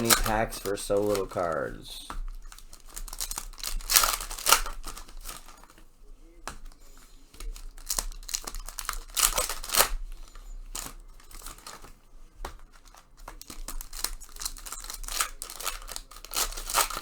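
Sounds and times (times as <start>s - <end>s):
foil wrappers crinkling and tearing: 0.0s - 17.0s.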